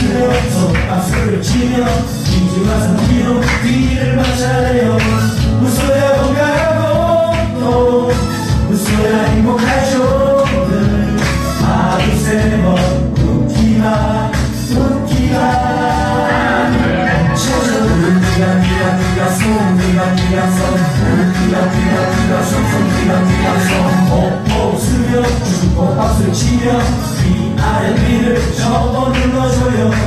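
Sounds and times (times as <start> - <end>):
song with sung melody and beat: 0.0 - 30.0.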